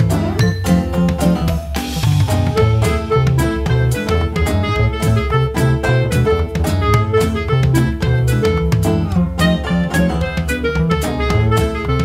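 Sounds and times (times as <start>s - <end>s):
instrumental music with plucked notes: 0.0s - 12.0s.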